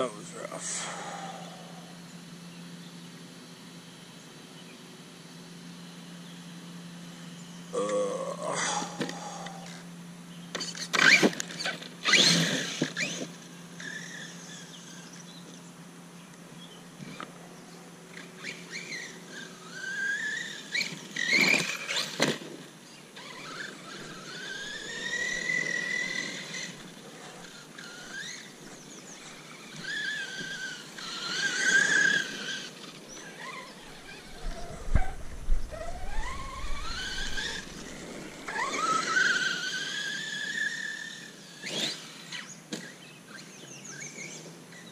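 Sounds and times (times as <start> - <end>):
toy truck electric motor whine: 5.4 - 15.6, 18.0 - 44.9.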